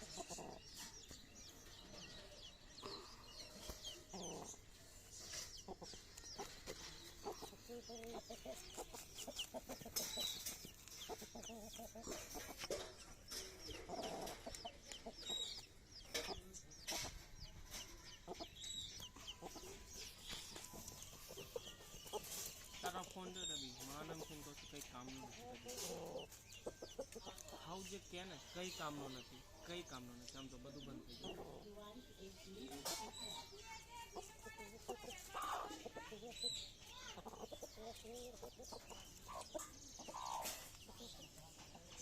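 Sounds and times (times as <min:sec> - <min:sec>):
chickens clucking: 0:00.0 - 0:42.0.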